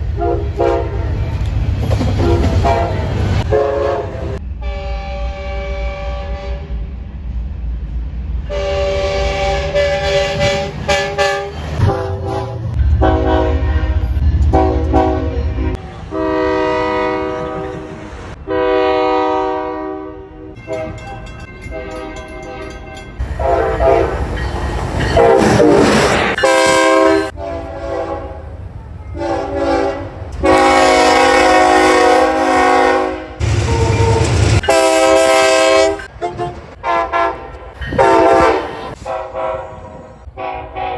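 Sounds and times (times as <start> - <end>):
passing train rumble: 0.0 - 40.9
locomotive air horn blasts: 0.1 - 1.2, 2.2 - 6.8, 8.5 - 21.1, 21.7 - 24.3, 25.2 - 40.9.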